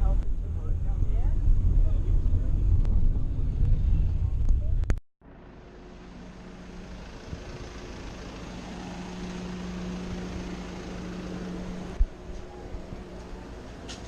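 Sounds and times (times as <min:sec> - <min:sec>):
road noise: 0:00.0 - 0:14.0
vehicle engine humming: 0:00.0 - 0:14.0.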